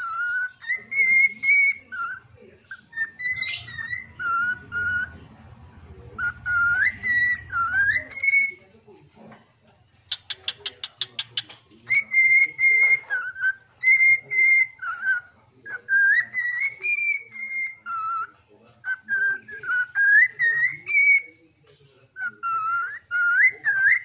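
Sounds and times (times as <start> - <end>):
songbird whistling melody: 0.0 - 5.4, 6.0 - 8.7, 10.1 - 24.0.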